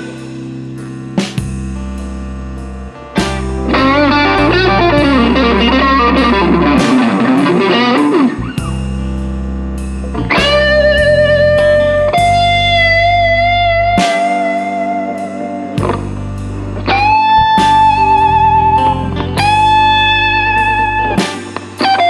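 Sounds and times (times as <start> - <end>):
bass line: 0.0 - 22.0
electric blues guitar solo: 3.0 - 9.4, 10.1 - 22.0.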